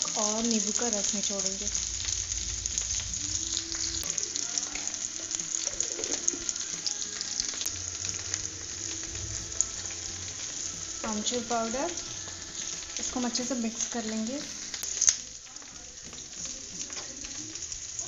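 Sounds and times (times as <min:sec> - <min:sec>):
chillies sizzling in hot oil: 0:00.0 - 0:18.0.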